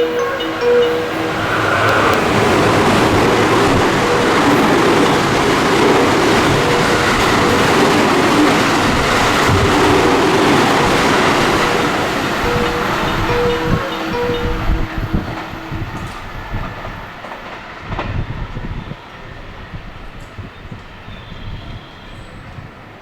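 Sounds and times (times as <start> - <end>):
train passing at speed: 0.0 - 23.0.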